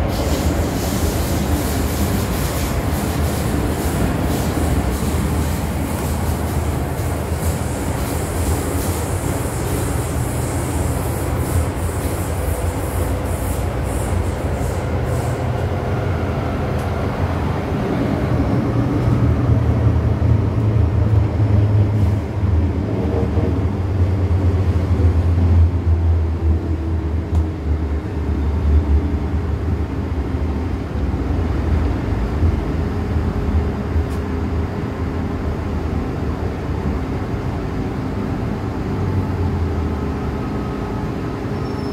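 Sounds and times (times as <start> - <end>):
train rumbling in tunnel: 0.0 - 41.9.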